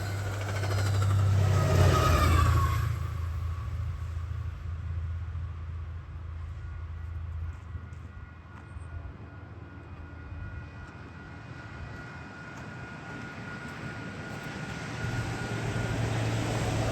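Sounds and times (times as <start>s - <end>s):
train rushing rumble: 0.0s - 16.9s.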